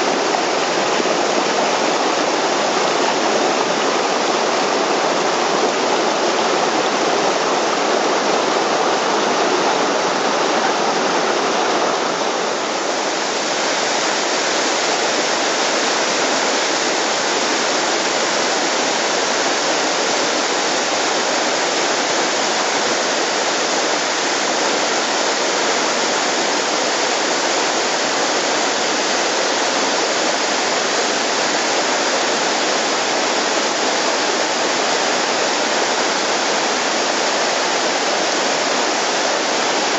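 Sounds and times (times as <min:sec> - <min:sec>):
water rushing over rock ledges: 0:00.0 - 0:39.9.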